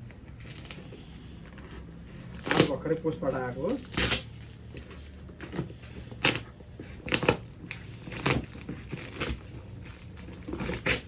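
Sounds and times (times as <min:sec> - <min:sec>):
packaging being torn open: 0:01.4 - 0:11.0.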